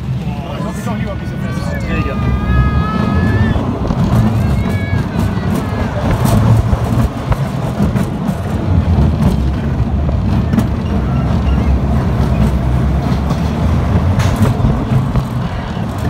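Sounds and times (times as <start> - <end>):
roller coaster wheels rumbling: 0.0 - 16.0.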